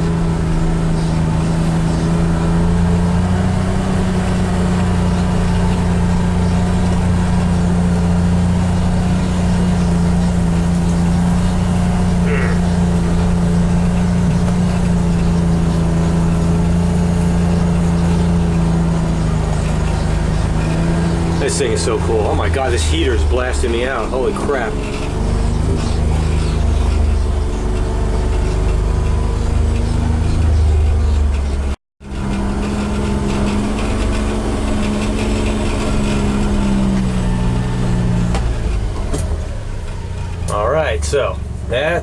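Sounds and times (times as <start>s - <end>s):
utility vehicle engine running: 0.0s - 42.0s.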